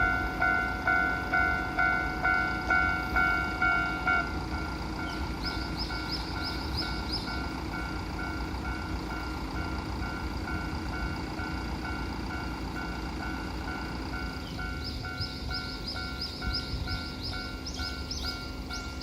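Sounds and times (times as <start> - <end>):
level-crossing warning bell ringing: 0.0 - 19.0.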